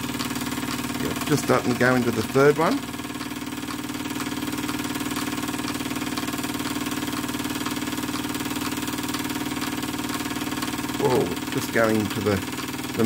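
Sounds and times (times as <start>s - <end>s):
model steam engine running: 0.0s - 13.0s.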